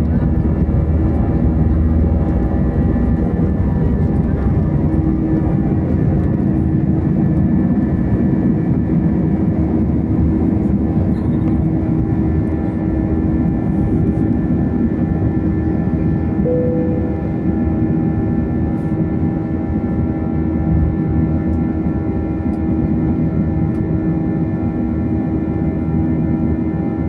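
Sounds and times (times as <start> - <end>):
jet engines at takeoff power: 0.0 - 27.0.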